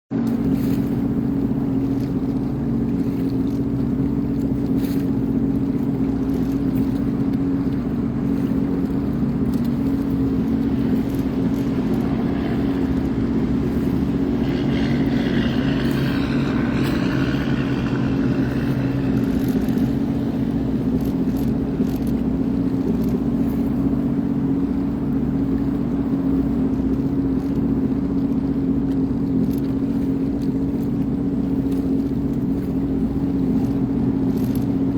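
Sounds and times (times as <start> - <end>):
watercraft engine running: 0.1 - 34.9.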